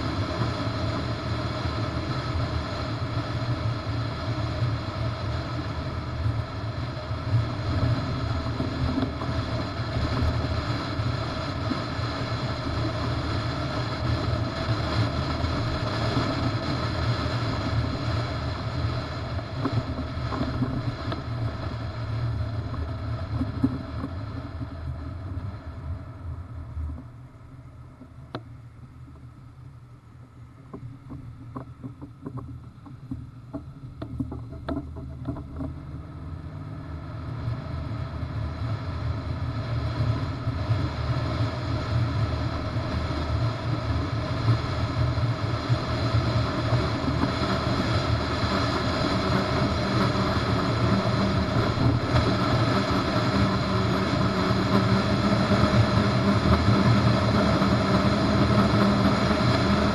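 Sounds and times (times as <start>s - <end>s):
wind and road noise rumble: 0.0s - 59.9s.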